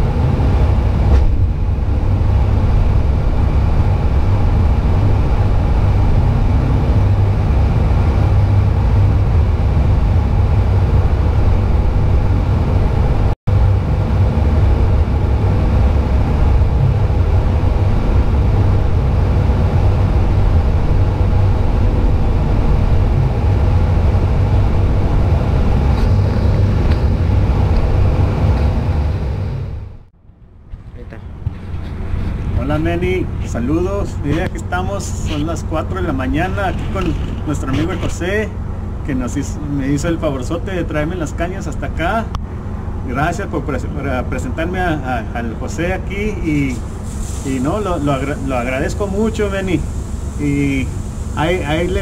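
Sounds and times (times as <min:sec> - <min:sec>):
car cabin engine and road rumble: 0:00.0 - 0:52.0.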